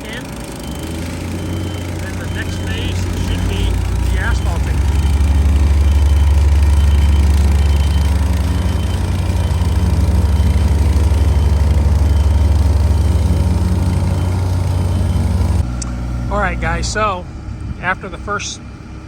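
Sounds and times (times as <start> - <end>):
heavy engine running: 0.0 - 19.0.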